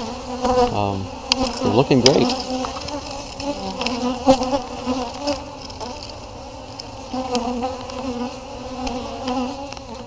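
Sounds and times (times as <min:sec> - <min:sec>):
honey bees buzzing: 0:00.0 - 0:10.0.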